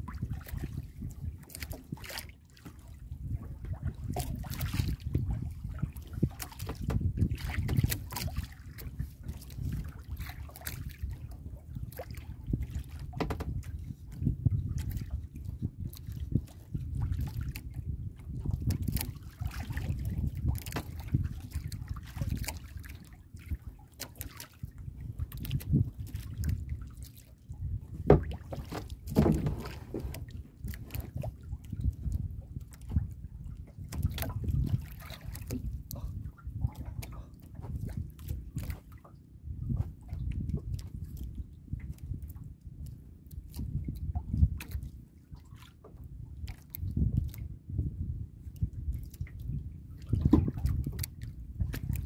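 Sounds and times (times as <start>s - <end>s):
waves lapping against boat hull: 0.0s - 52.0s.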